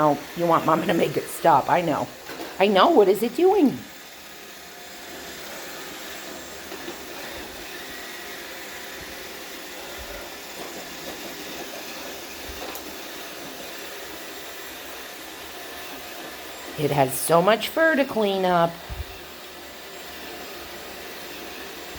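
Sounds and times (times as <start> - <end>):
robot vacuum whirring: 0.0 - 21.9.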